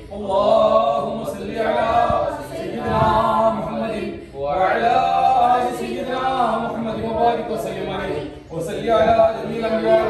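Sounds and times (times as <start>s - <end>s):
men chanting prayer: 0.0s - 10.0s.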